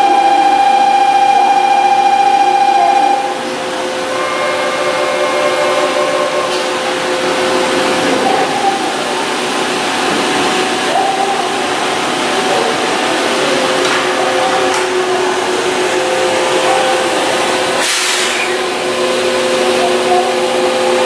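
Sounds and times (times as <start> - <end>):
train electrical hum and whine: 0.0 - 21.0.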